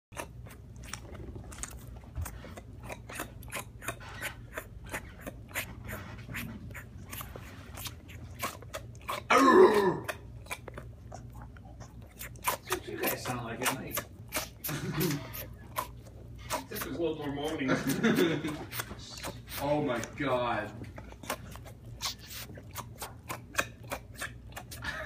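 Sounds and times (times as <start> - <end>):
dog sucking on rubber toy: 0.1 - 9.3, 10.0 - 25.0.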